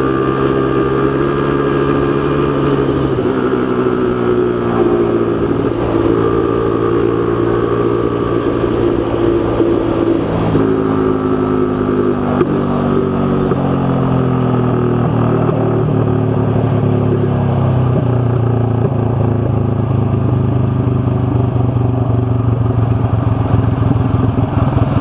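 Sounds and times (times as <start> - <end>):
motorcycle engine at high speed: 0.0 - 25.0.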